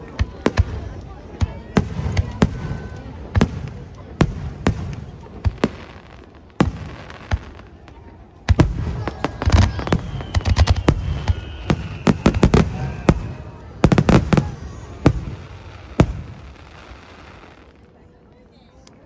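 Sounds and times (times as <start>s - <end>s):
fireworks bangs: 0.0s - 17.8s
fireworks crackling: 0.0s - 19.0s.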